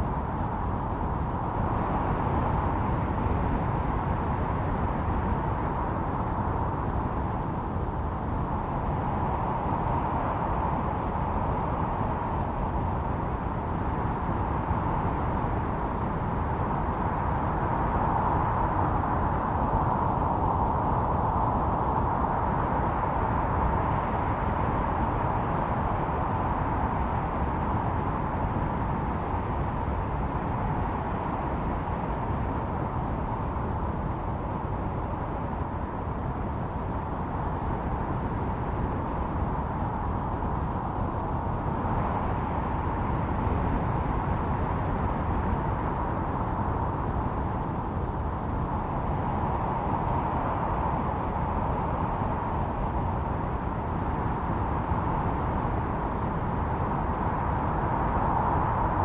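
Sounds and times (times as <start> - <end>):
howling wind: 0.0 - 59.0.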